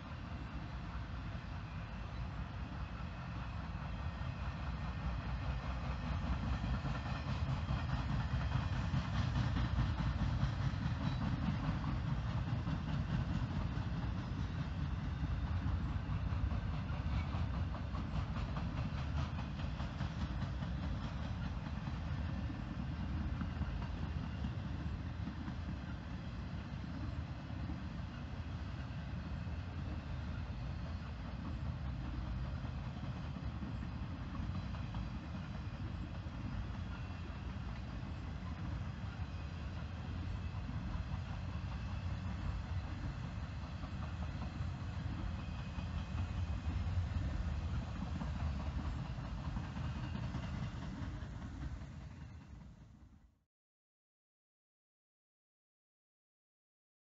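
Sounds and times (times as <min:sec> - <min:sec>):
train cars rumbling on rails: 0:00.0 - 0:53.2.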